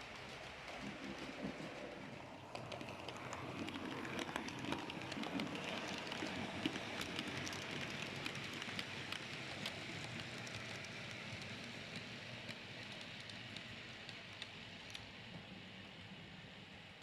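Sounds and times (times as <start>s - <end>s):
model train whirring rattle: 0.0s - 15.8s.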